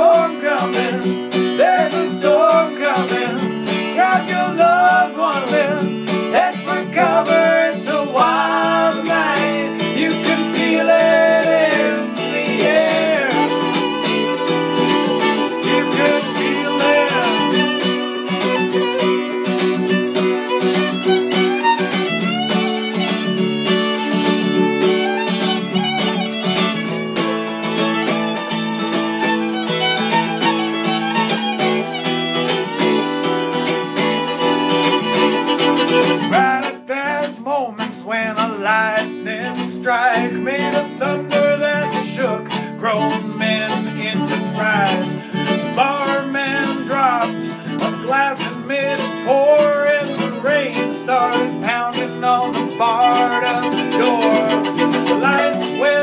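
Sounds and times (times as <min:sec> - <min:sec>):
fiddle playing: 0:00.0 - 0:56.0
strummed acoustic guitar: 0:00.0 - 0:56.0.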